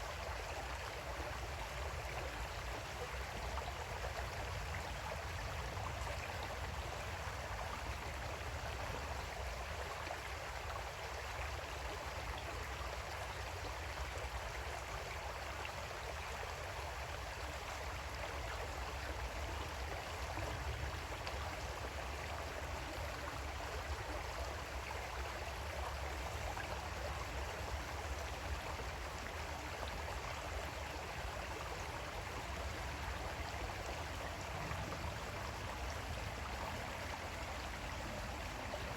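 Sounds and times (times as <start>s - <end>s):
creek water flowing over rocks: 0.0s - 38.9s.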